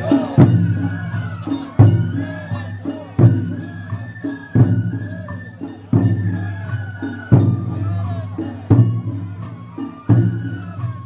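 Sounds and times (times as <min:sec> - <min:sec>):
held high tone: 0:00.0 - 0:11.0.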